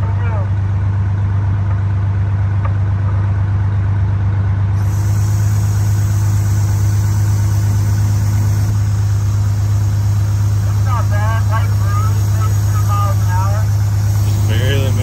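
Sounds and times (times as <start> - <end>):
fire truck engine running: 0.0 - 15.0.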